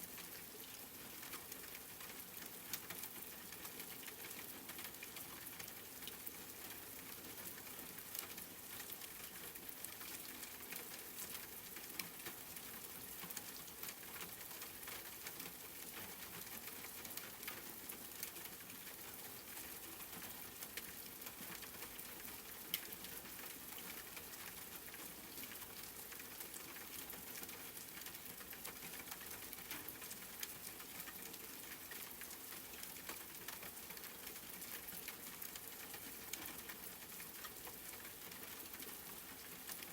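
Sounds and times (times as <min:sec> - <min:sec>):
raindrops ticking on a surface: 0:00.0 - 0:39.9.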